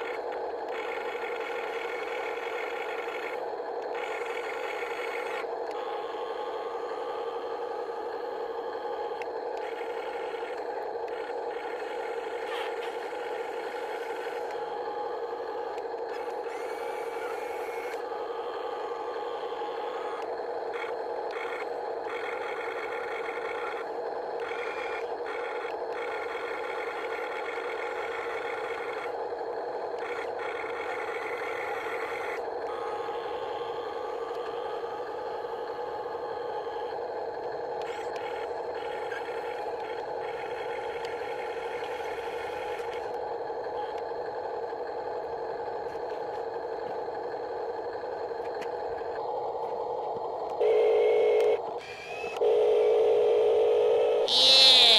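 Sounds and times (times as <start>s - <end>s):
small electric motors whirring: 0.0s - 29.2s, 30.0s - 44.0s, 50.6s - 52.6s, 54.1s - 54.9s.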